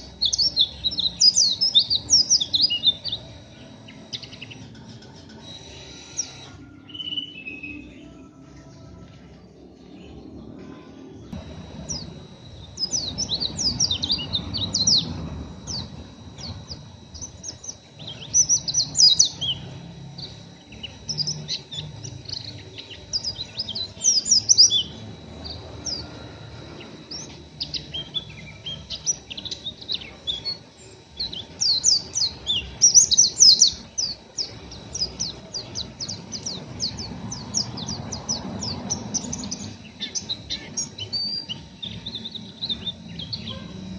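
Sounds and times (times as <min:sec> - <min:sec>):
bird twittering rapidly: 0:00.0 - 0:07.8, 0:11.4 - 0:43.9
faint steady high tones: 0:00.0 - 0:43.9.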